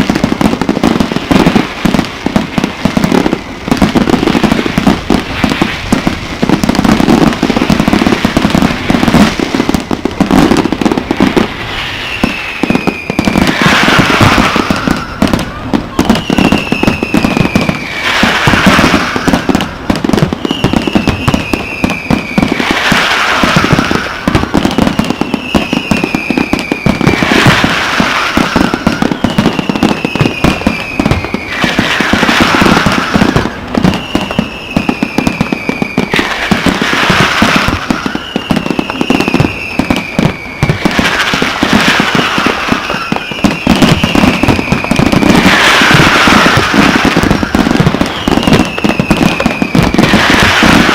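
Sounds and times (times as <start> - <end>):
firework burst: 0.0 - 50.9
firework whistle falling in pitch: 2.4 - 50.9.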